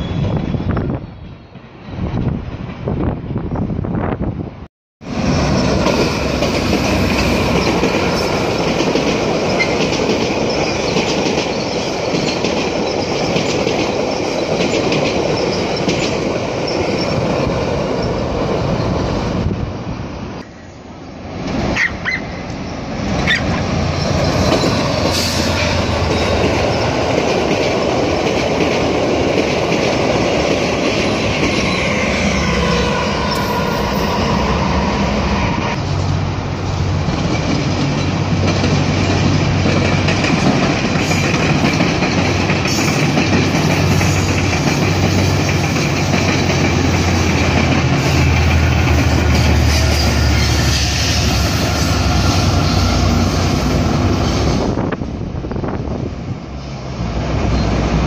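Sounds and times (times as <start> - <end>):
diesel locomotive engine: 0.0 - 58.0
train wheels on rails: 5.0 - 58.0.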